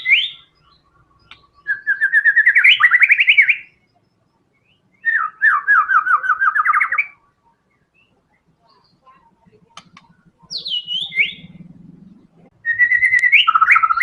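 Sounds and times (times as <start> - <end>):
bird singing whistled notes: 0.0 - 9.0, 9.9 - 14.0.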